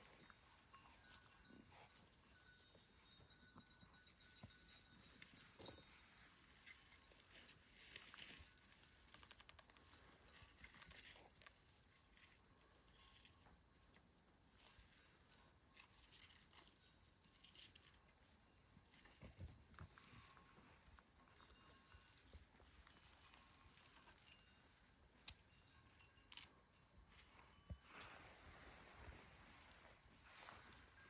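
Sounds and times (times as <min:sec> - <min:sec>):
faint rustling and crinkling: 0:00.0 - 0:31.0
soft scrapes and crackles: 0:00.0 - 0:31.0.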